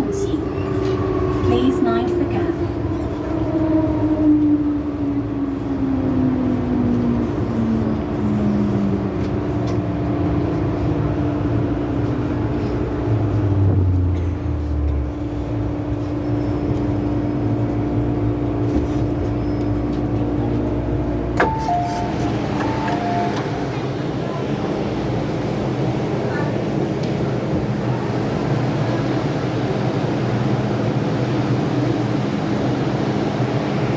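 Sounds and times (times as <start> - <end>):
wheel and track rumble: 0.0 - 33.9.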